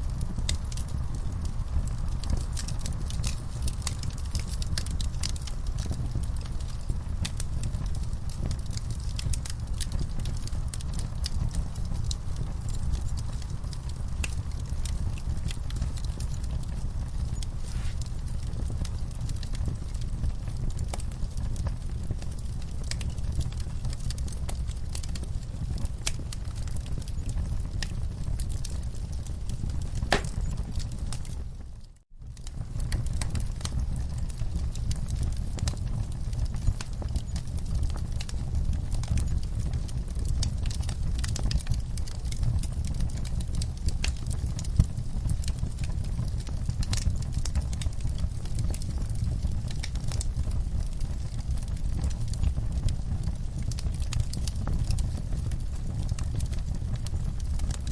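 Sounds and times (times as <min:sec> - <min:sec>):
log fire crackling and popping: 0:00.0 - 0:57.9
low rumble of flames: 0:00.0 - 0:57.9.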